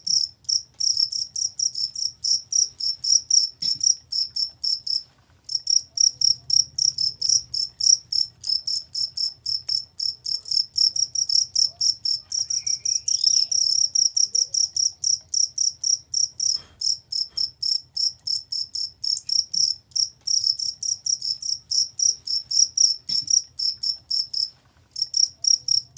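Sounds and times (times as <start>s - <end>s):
cricket chirping: 0.0s - 25.9s.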